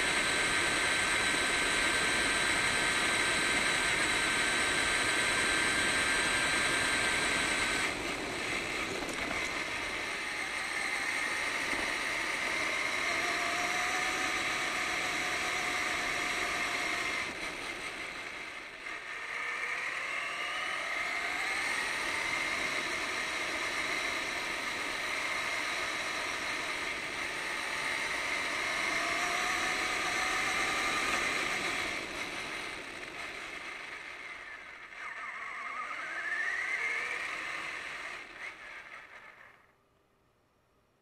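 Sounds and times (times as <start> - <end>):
toy truck motor whine: 0.0 - 39.8.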